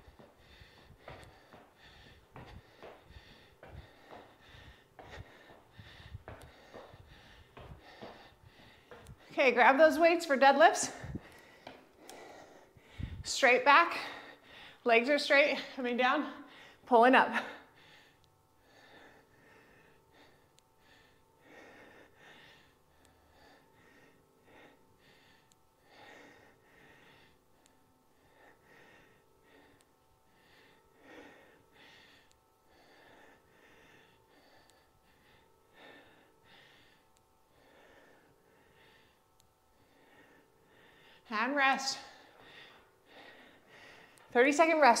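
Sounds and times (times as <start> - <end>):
woman breathing hard: 0.0 - 9.4, 10.7 - 14.9, 15.5 - 44.8
faint steady hum: 0.0 - 45.0.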